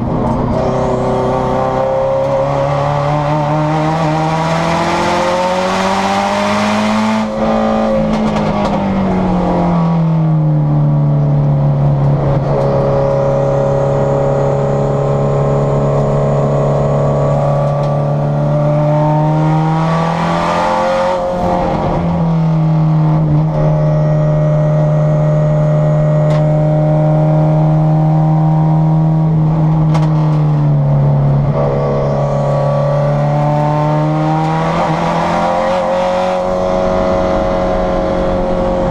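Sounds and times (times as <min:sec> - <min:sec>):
race car engine from cabin: 0:00.0 - 0:38.9.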